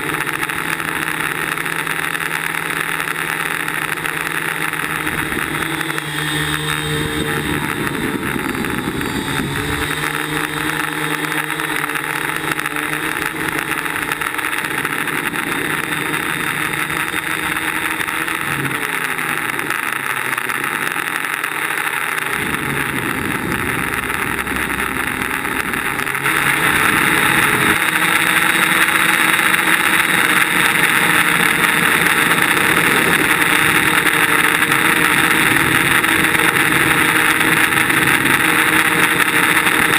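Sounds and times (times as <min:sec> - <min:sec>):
drone propellers whirring: 0:00.0 - 0:39.9.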